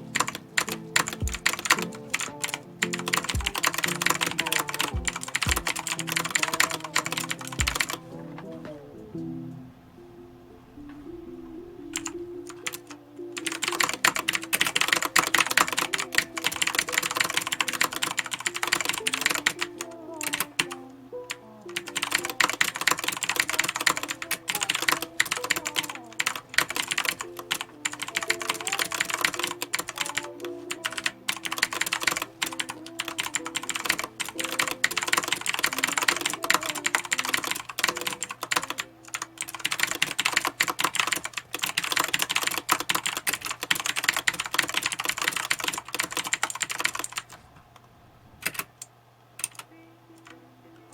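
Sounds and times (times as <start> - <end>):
mechanical keyboard typing: 0.0 - 8.0, 11.9 - 20.8, 21.7 - 47.4, 48.4 - 50.4
faint background music: 0.0 - 47.5, 48.1 - 50.9.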